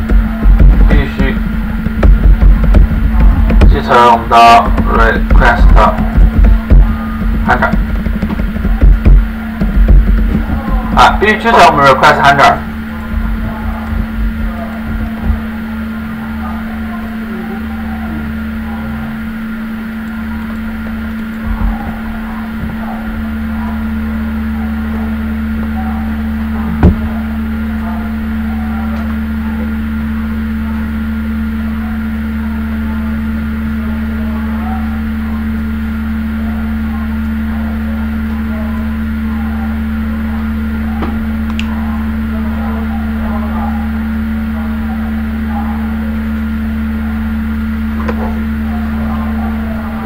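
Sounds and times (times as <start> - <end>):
electrical hum with high whine: 0.0 - 50.0.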